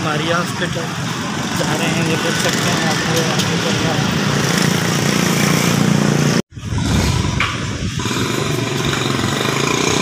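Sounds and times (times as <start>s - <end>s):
motorcycle engines running: 0.0s - 10.0s
street traffic: 0.0s - 10.0s.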